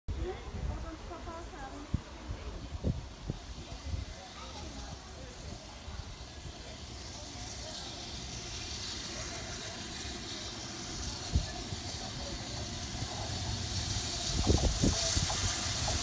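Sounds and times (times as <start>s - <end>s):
steam locomotive hiss and rumble: 0.1s - 16.0s.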